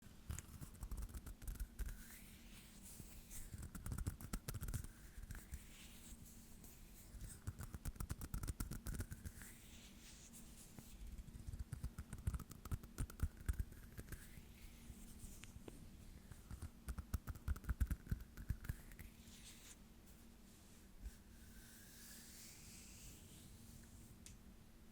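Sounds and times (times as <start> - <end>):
hands rubbing and scratching: 0.3 - 24.1.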